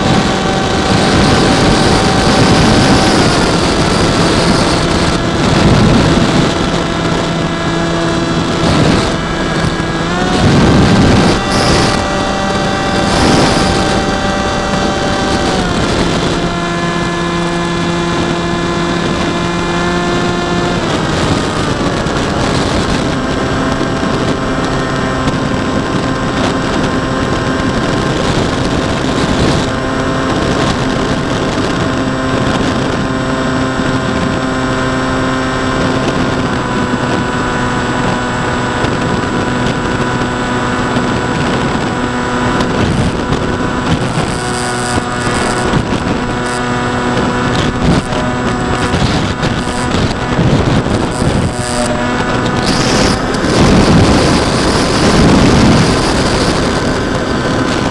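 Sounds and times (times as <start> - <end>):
electric motor and propeller whine: 0.0 - 57.9
wind rushing past microphone: 0.0 - 57.9.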